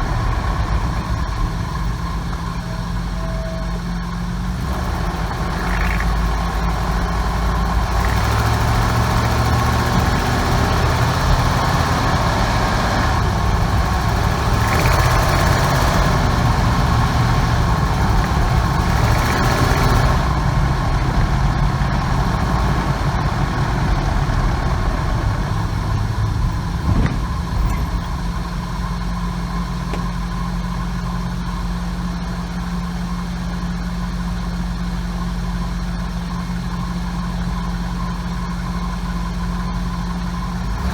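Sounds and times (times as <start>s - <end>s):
engine running and idling: 0.0s - 40.9s.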